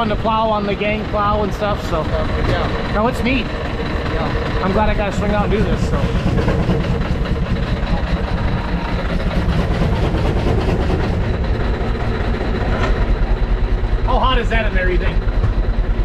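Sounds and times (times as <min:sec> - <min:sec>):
steam traction engine running: 0:00.0 - 0:16.0.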